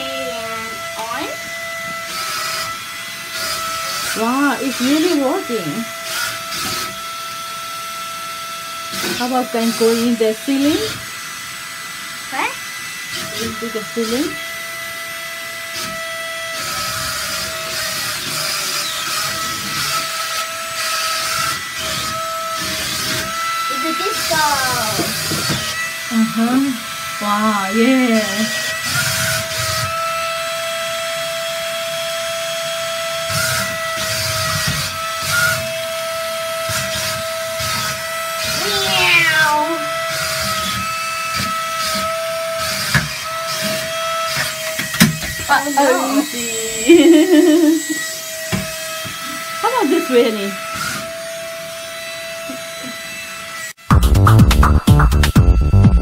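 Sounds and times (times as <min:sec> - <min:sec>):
toy suction fan whining: 0:00.0 - 0:53.8.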